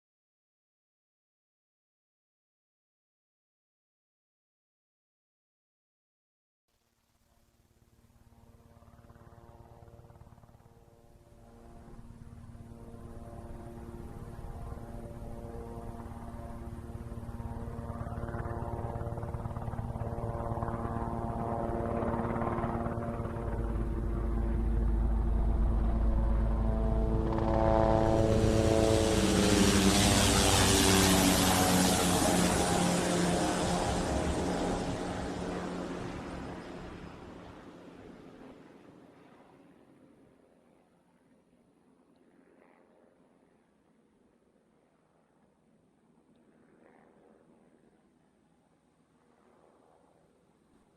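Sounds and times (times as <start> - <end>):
helicopter flyover: 8.0 - 50.9.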